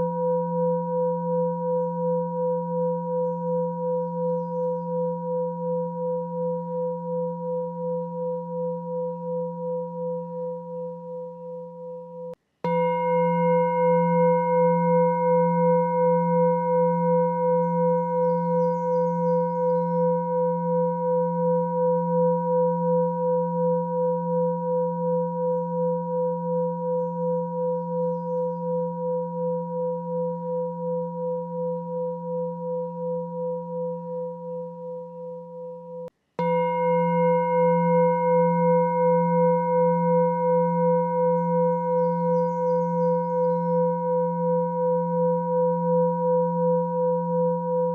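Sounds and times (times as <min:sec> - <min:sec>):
low pulsing ringing tone: 0:00.0 - 0:47.9.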